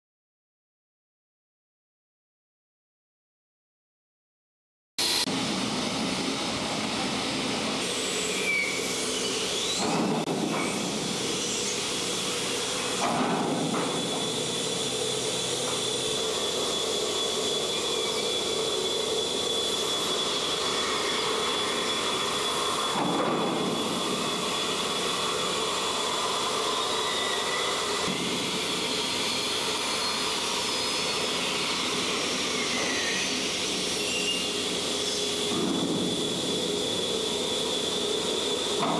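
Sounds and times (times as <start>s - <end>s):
loud rushing suction hiss: 5.0s - 38.8s
constant high whine: 5.0s - 38.9s.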